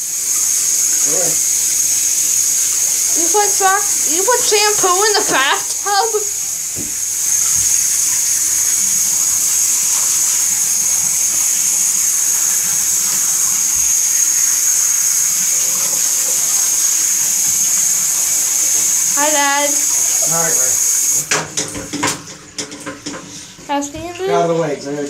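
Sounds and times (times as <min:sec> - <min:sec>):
shower sprayer running: 0:00.0 - 0:25.0.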